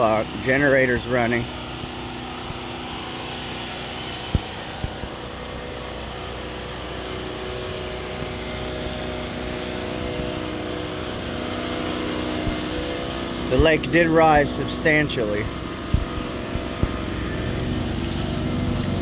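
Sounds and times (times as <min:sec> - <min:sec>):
generator engine humming: 0:00.0 - 0:19.0.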